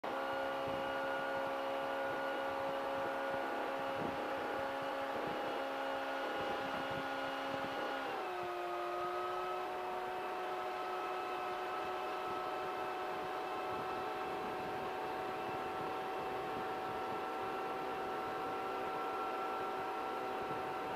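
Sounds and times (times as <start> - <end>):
ultralight aircraft engine droning: 0.0 - 20.9.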